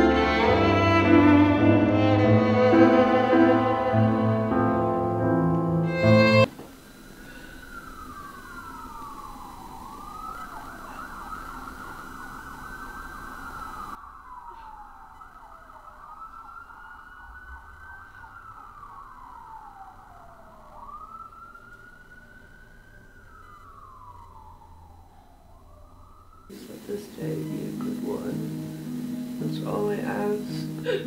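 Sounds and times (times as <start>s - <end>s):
siren wailing: 0.0s - 31.0s.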